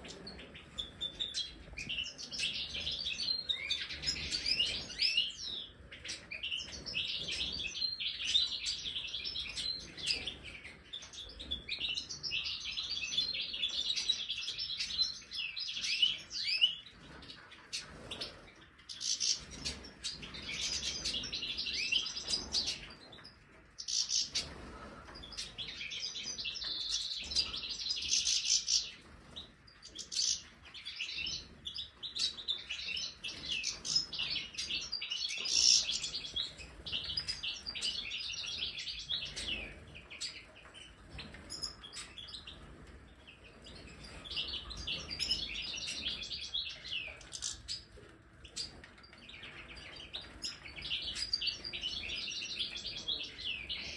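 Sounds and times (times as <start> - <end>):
finches twittering and singing: 0.0 - 53.9.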